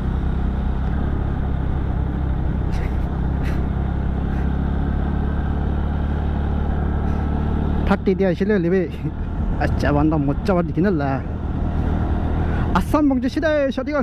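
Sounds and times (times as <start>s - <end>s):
scooter engine hum: 0.0s - 14.0s
wind and road noise: 0.0s - 14.0s.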